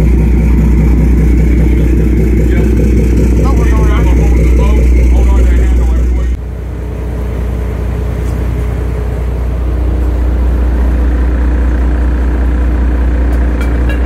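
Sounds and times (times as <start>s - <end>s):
boat engine droning: 0.0s - 14.0s
steady hum: 0.0s - 14.0s.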